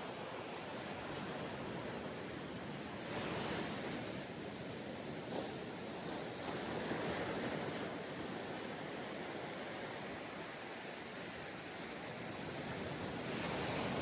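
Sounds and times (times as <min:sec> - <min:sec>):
sea waves on sandy beach: 0:00.0 - 0:14.0.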